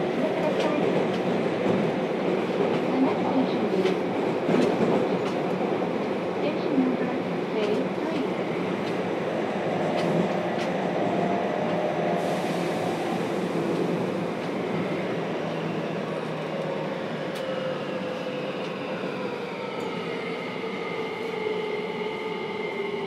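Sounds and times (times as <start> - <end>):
train wheel and rail rumble: 0.0 - 23.0.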